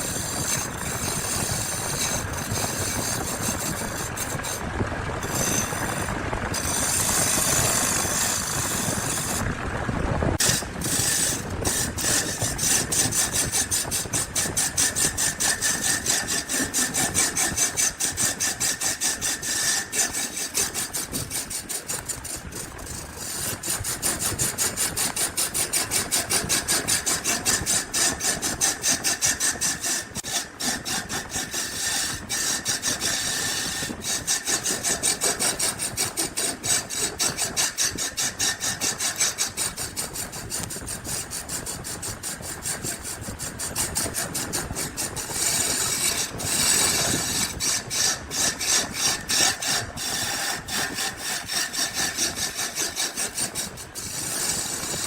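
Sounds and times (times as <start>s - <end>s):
wood scraping strokes: 0.0s - 9.7s, 10.4s - 55.0s.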